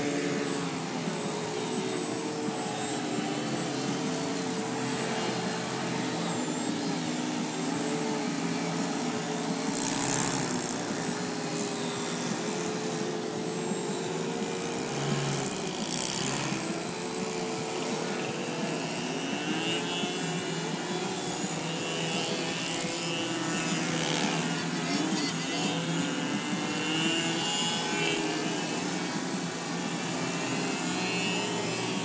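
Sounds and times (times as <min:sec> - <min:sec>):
model plane propellers buzzing: 0:00.0 - 0:32.0.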